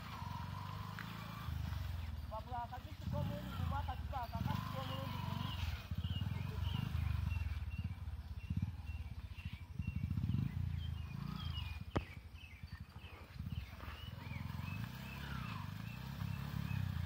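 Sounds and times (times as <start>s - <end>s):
birds chirping: 0.0s - 17.0s
motorcycle engine pulling away: 0.0s - 17.0s.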